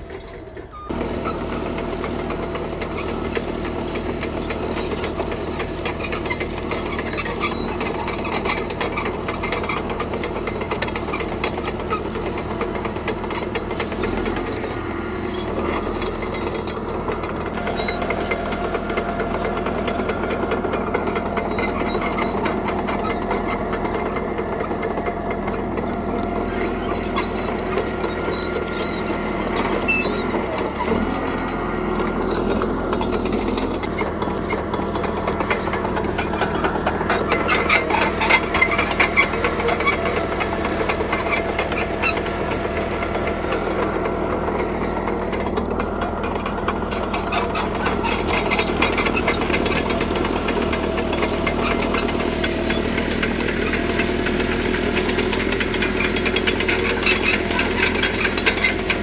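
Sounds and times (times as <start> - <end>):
bulldozer diesel engine running: 0.0 - 59.0
tracks clattering and rattling: 0.0 - 59.0.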